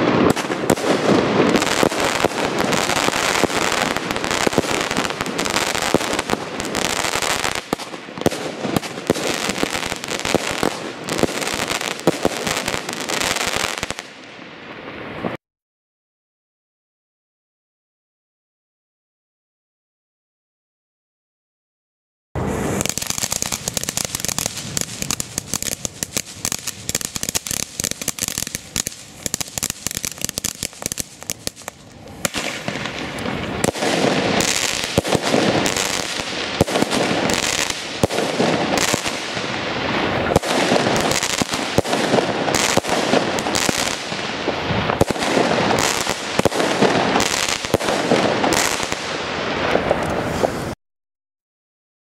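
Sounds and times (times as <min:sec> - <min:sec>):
firework shots cracking and popping: 0:00.0 - 0:15.4, 0:22.4 - 0:50.8
firework sparks crackling: 0:00.0 - 0:15.4, 0:22.4 - 0:50.8.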